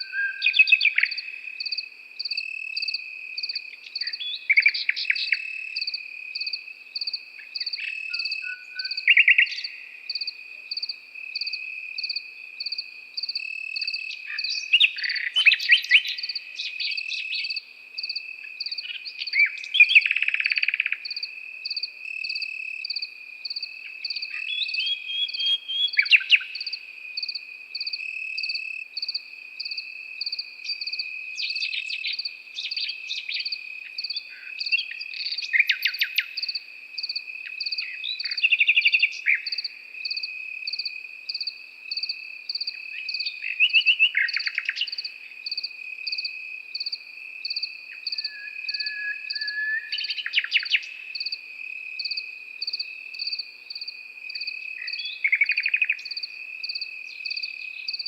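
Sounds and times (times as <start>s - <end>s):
crickets trilling: 0.0s - 58.0s
nightingale singing: 0.0s - 58.0s.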